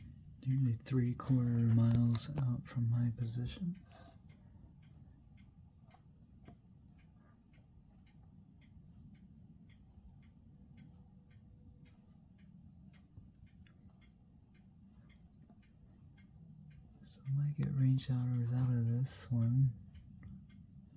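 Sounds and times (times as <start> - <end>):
faint regular ticking: 0.0 - 20.9
low steady rumble: 0.0 - 20.9.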